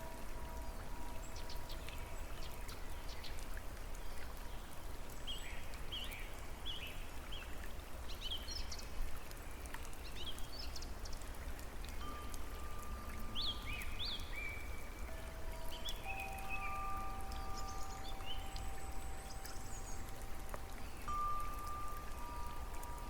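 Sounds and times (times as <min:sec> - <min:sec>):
small birds chirping: 0:00.0 - 0:23.0
water dripping and pattering: 0:00.0 - 0:23.0.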